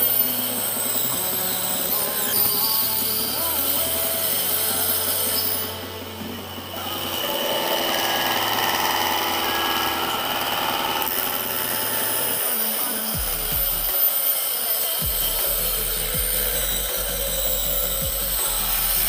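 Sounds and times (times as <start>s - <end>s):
small circular saw cutting wood: 0.0s - 19.0s.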